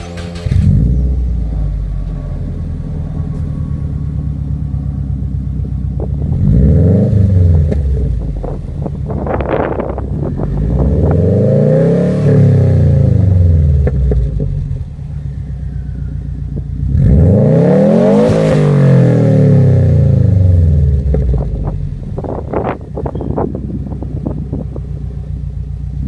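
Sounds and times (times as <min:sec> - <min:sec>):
car engine revving: 0:00.0 - 0:26.0
exhaust crackling: 0:00.0 - 0:26.0.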